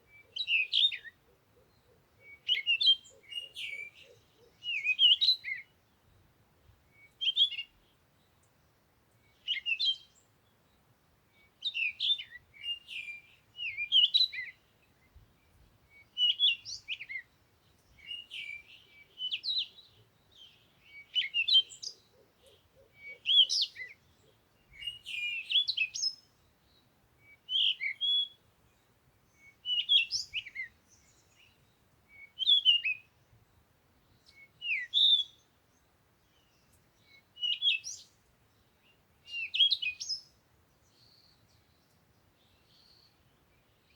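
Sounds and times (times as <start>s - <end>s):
songbird chirping and warbling: 0.0s - 6.3s, 9.1s - 33.4s, 34.1s - 43.9s.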